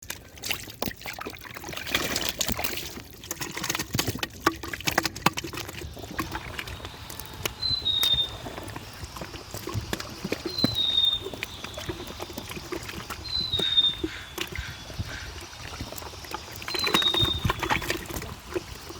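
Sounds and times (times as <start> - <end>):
water splashing and trickling: 0.0 - 18.9.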